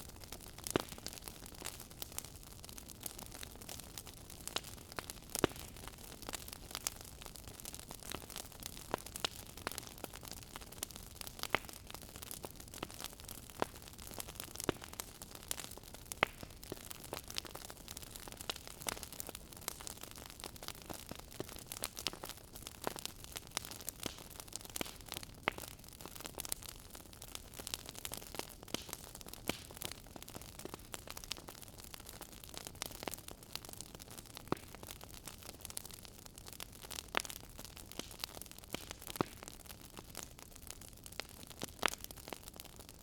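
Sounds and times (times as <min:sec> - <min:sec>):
fireplace fire crackling: 0:00.0 - 0:43.0.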